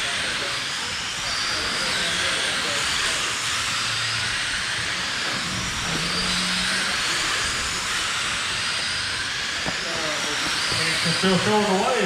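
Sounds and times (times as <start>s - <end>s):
electric motors hissing: 0.0s - 12.0s
faint motor whine: 0.0s - 12.0s
tyres on dirt track: 0.0s - 12.0s.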